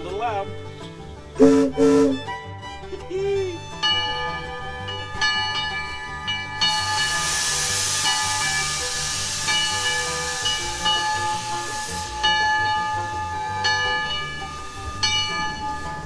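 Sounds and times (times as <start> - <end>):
steam locomotive hissing: 0.2 - 16.0.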